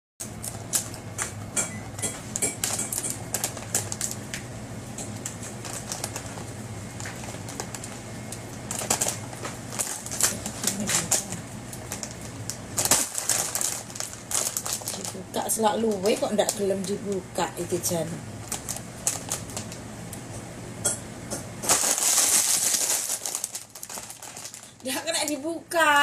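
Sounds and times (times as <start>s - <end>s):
plastic packaging crinkling: 0.2s - 1.3s, 2.0s - 19.9s, 21.6s - 26.0s
steady low hum: 0.2s - 26.0s.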